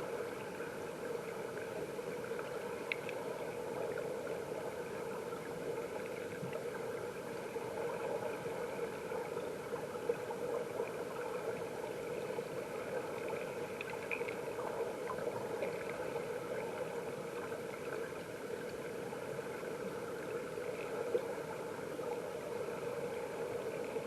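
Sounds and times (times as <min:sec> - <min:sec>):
stream water flowing underwater: 0:00.0 - 0:24.0
faint ticks: 0:00.1 - 0:24.0.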